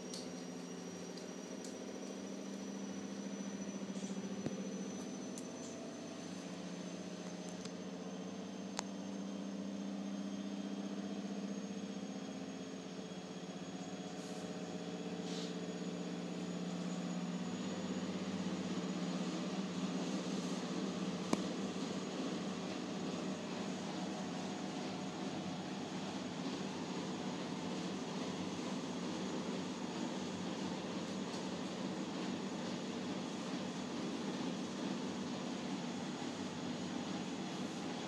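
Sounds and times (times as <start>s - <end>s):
washing machine humming: 0.0s - 38.0s.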